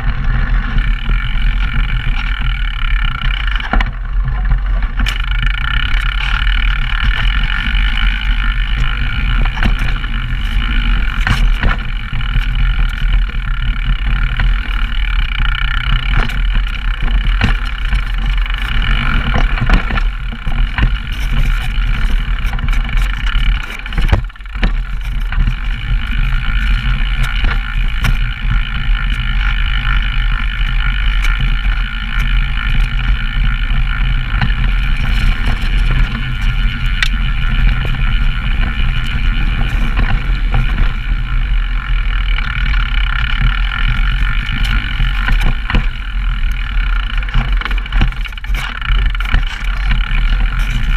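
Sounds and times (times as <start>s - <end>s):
bike knocking and rattling: 0.0s - 50.9s
wind and tyres rushing: 0.0s - 50.9s.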